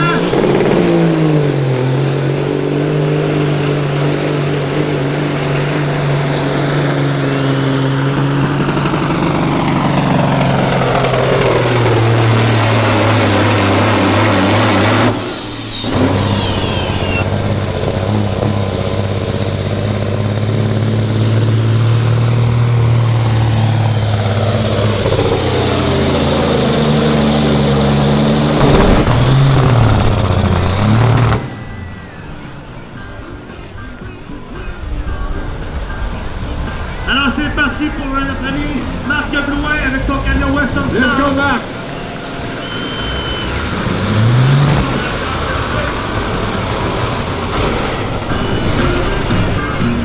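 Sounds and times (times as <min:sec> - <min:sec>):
diesel truck engine under load: 0:00.0 - 0:50.0.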